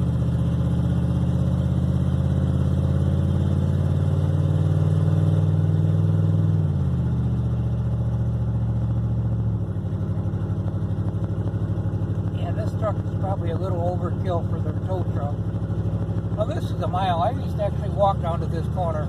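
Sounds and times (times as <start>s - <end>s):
vehicle engine drone from inside cab: 0.0s - 19.0s.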